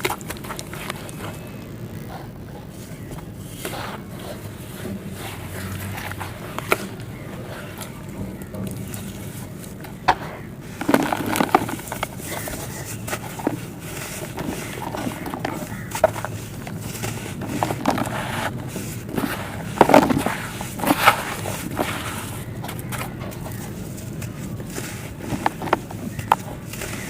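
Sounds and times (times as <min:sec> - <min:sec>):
dry clay crumbling and cracking: 0:00.0 - 0:03.8, 0:04.9 - 0:27.0
steady low hum: 0:00.0 - 0:27.0.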